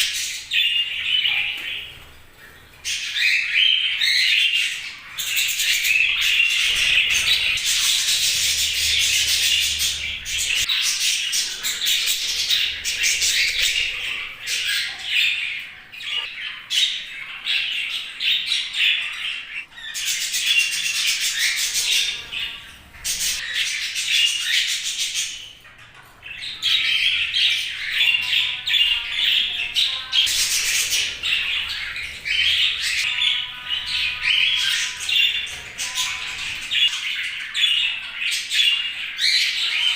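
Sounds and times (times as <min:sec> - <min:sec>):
budgerigars chattering: 0:02.9 - 0:25.5, 0:26.3 - 0:39.9.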